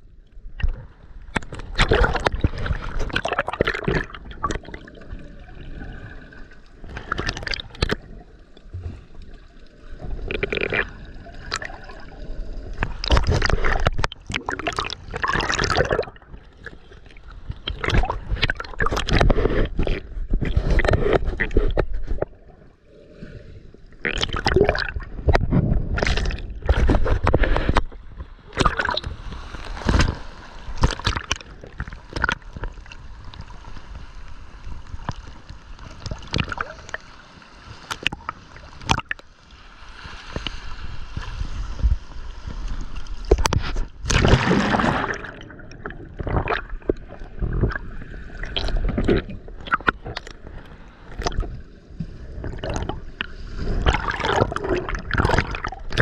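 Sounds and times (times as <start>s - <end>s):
sea water sloshing and gurgling: 0.0s - 56.0s
water splashes: 0.5s - 56.0s
surge of water: 0.6s - 56.0s.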